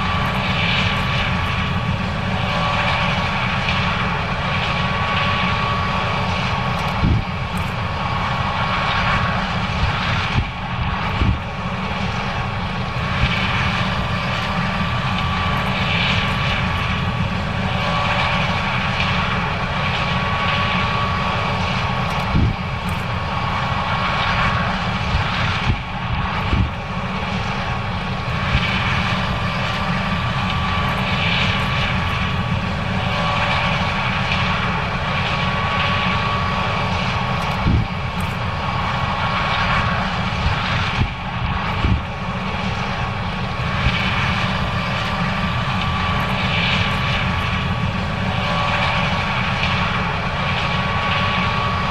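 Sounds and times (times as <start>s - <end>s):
combine harvester machinery drone: 0.0s - 51.9s.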